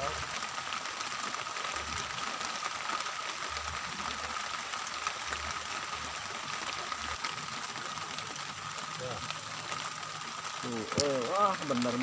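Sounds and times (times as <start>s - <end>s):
rain patter on a surface: 0.0s - 12.0s.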